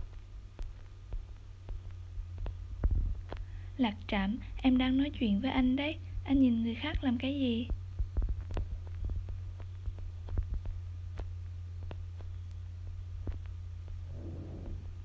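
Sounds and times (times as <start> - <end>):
faint clicks: 0.0 - 4.7, 6.2 - 14.7
low hum: 0.0 - 15.0.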